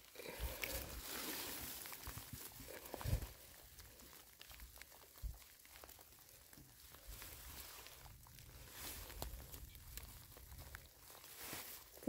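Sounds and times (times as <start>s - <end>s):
rain drops ticking: 0.0s - 12.0s
soft rustling: 0.0s - 12.0s.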